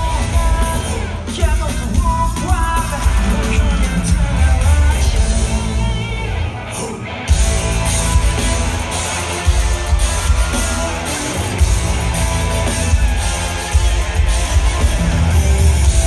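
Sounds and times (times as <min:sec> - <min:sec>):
pop song through concert speakers: 0:00.0 - 0:16.0.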